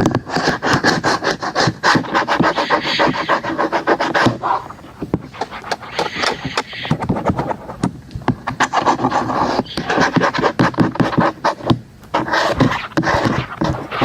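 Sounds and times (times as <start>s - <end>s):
fingertip scratching rustle: 0.0s - 14.0s.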